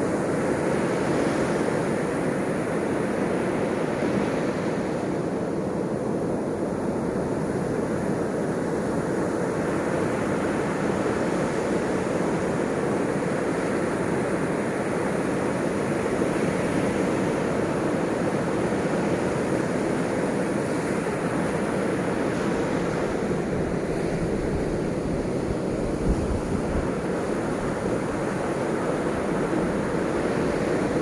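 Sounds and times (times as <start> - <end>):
ocean surf washing on shore: 0.0 - 31.0.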